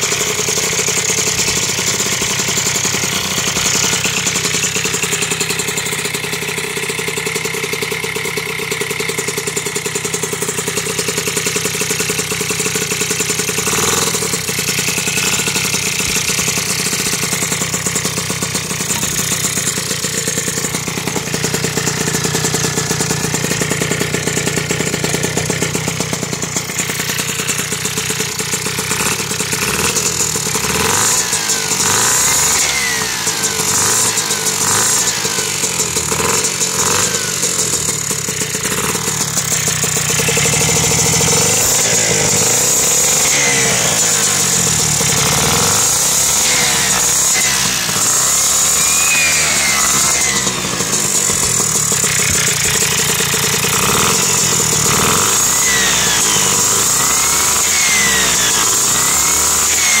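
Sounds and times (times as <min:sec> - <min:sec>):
moped engine revving: 0:00.0 - 1:00.0.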